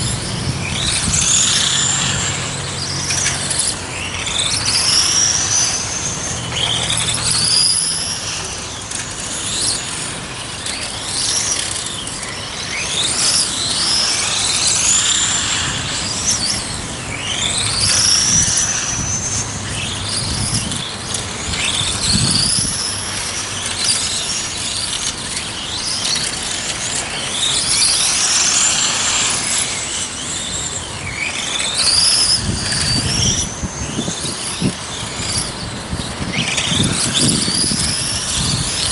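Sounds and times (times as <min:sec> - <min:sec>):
electric rc car motors whining: 0:00.0 - 0:38.9.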